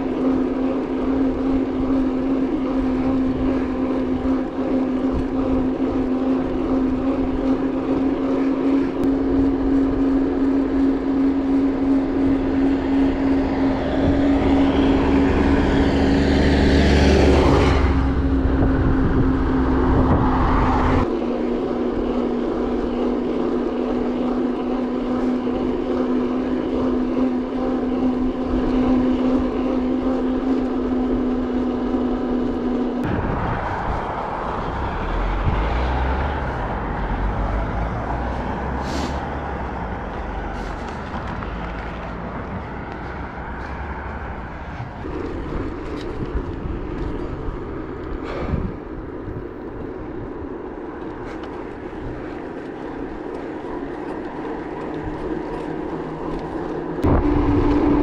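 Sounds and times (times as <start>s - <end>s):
running rumble: 0.0s - 58.0s
vehicle engine drone: 0.0s - 58.0s.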